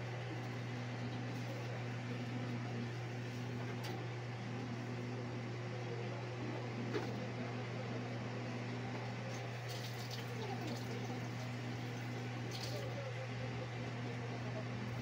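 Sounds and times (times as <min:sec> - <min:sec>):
computer cooling fans humming: 0:00.0 - 0:15.0.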